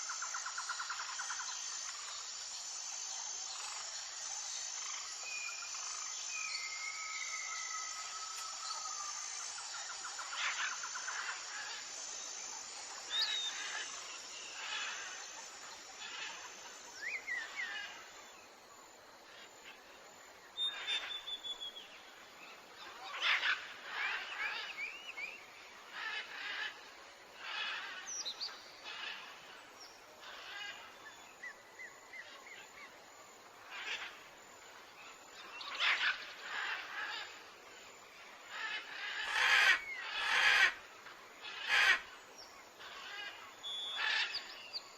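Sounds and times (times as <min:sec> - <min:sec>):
steady background hiss: 0:00.0 - 0:44.9.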